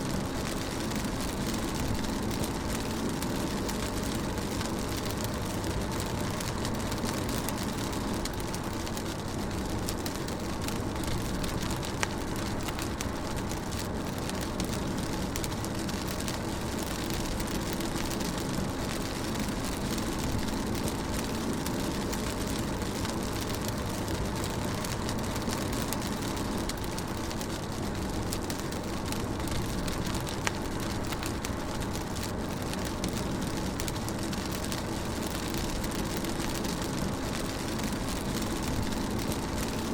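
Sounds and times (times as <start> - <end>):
faint raindrops tapping: 0.0 - 39.9
rain hissing on car: 0.0 - 39.9.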